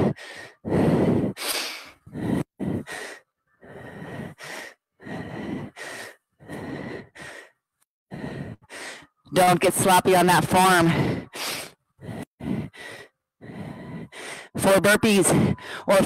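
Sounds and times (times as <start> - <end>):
woman breathing hard: 0.0 - 9.2, 10.9 - 14.6, 15.2 - 16.0.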